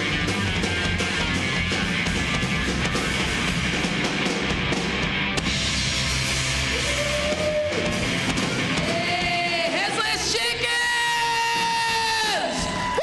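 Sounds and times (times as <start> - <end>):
electric guitar: 0.0 - 11.8
drum kit: 0.0 - 13.0.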